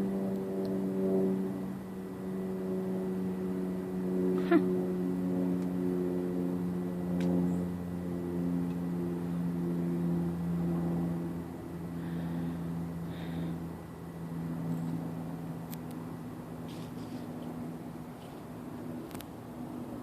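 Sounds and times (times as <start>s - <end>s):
low engine-like hum: 0.0s - 20.0s.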